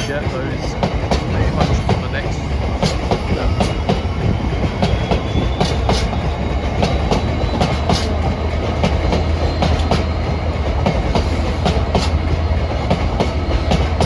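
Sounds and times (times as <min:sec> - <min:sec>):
low locomotive drone: 0:00.0 - 0:14.0
train wheels clicking over rail joints: 0:00.0 - 0:14.0.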